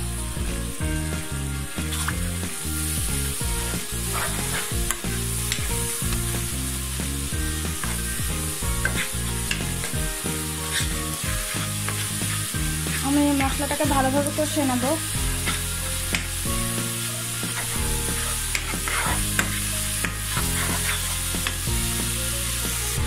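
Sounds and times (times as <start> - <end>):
masala sizzling in oil: 0.0 - 23.0
spoon stirring and scraping: 1.5 - 6.4, 7.4 - 21.7.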